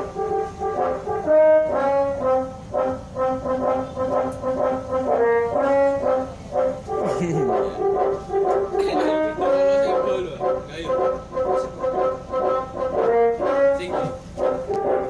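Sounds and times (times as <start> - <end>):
bus air horn playing tune: 0.0 - 15.0.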